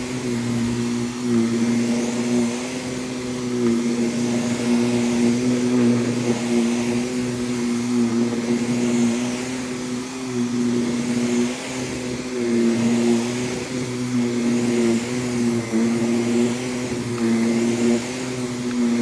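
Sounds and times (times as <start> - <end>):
vacuum cleaner running on a rug: 0.0 - 19.0.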